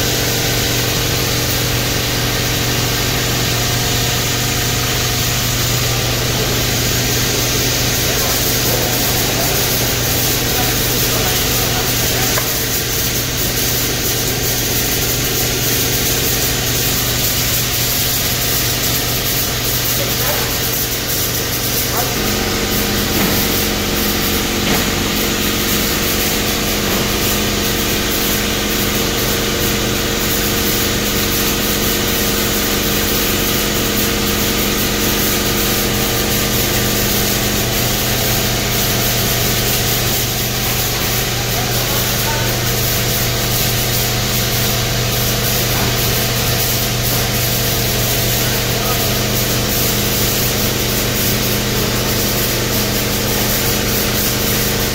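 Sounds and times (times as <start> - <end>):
machine hum: 0.0 - 54.9
machinery humming and whirring: 0.0 - 54.9.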